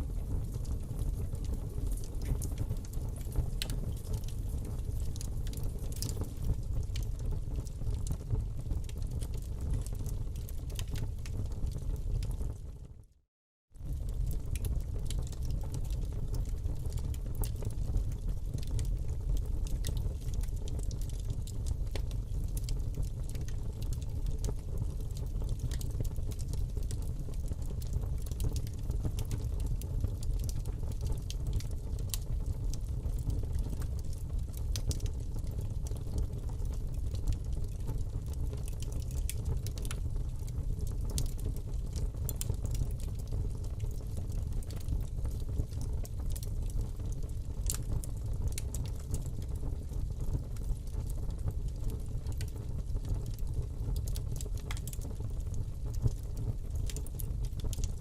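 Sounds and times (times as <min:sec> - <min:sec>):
fire crackling in a fireplace: 0:00.0 - 0:58.0.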